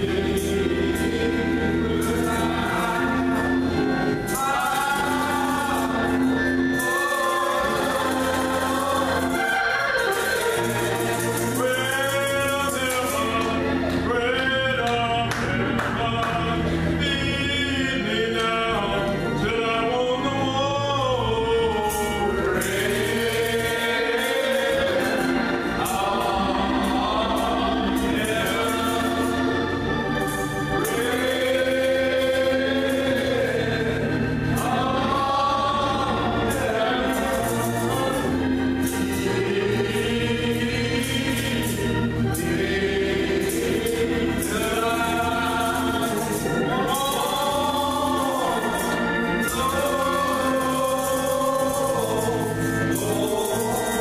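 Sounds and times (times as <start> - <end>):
gospel choir singing: 0.0 - 54.0.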